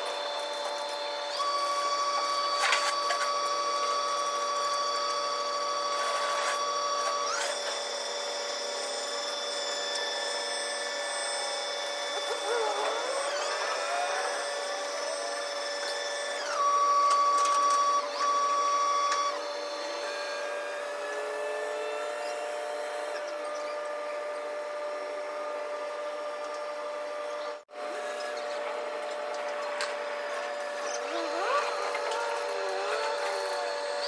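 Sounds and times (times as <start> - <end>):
higher machine whine: 0.0 - 34.0
machinery whine: 0.0 - 34.0.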